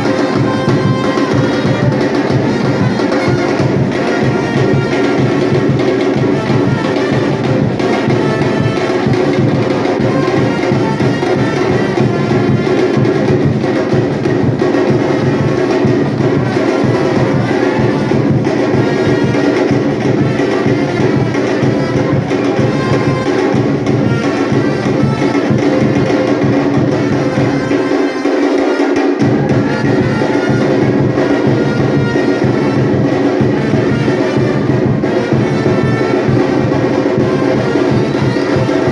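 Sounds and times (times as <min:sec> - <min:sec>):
low drums: 0:00.0 - 0:28.0, 0:28.7 - 0:38.9
percussion ensemble drumming: 0:00.0 - 0:38.9.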